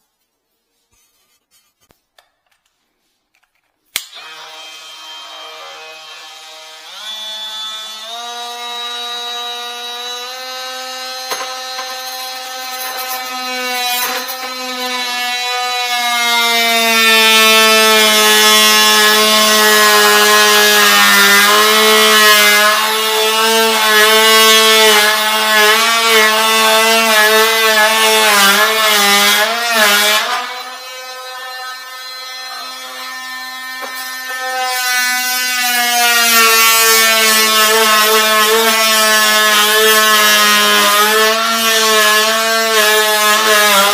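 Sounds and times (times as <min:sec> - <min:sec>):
electric power tool cutting: 0:03.9 - 0:43.9.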